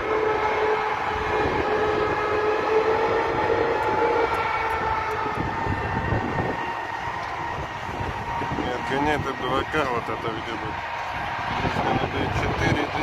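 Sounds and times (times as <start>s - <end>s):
electric train whine: 0.0s - 13.0s
low train rumble: 0.0s - 13.0s.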